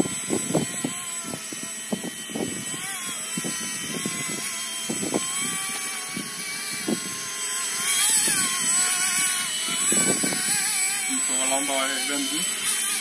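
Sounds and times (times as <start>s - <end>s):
rc helicopter motor whining: 0.0s - 13.0s.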